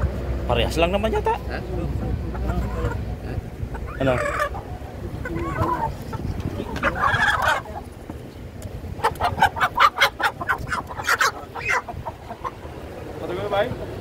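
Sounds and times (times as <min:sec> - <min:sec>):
chickens clucking and squawking: 0:00.0 - 0:14.0.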